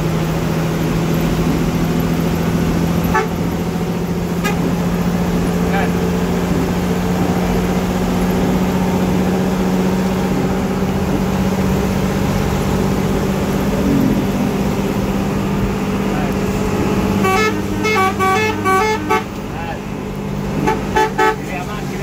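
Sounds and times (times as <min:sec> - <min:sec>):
bus engine low drone: 0:00.0 - 0:22.0
rain and wet road hiss: 0:00.0 - 0:22.0.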